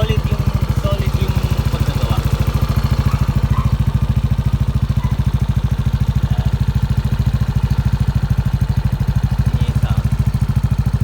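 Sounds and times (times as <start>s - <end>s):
motorcycle exhaust idling: 0.0s - 11.0s.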